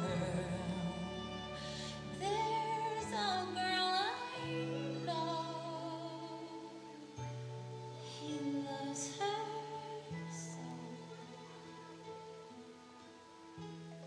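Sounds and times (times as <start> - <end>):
woman singing: 0.0 - 7.3, 8.0 - 12.0
orchestral accompaniment: 0.0 - 14.0.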